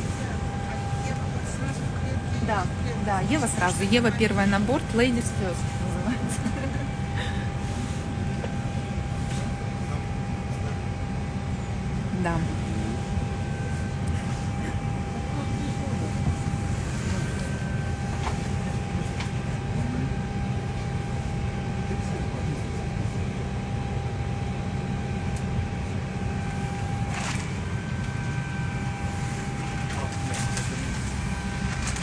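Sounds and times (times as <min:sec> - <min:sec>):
cabin ventilation drone: 0:00.0 - 0:32.0
thin steady whine: 0:00.0 - 0:32.0.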